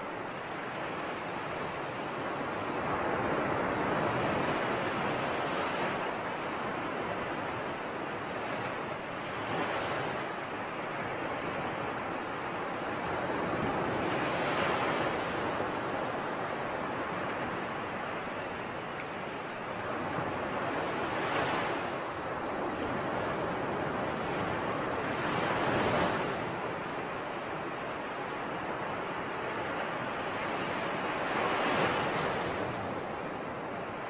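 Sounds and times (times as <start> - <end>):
sea waves breaking on shore: 0.1 - 34.0.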